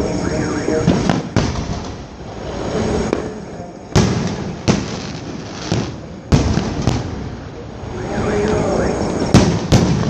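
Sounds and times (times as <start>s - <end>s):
fireworks exploding: 0.0s - 10.0s
steady background noise: 0.0s - 10.0s.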